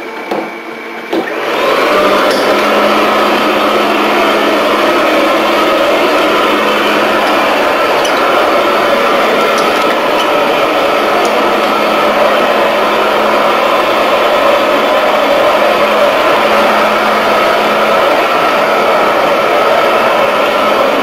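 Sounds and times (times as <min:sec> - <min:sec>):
floor scrubber machine drone: 0:00.0 - 0:21.0.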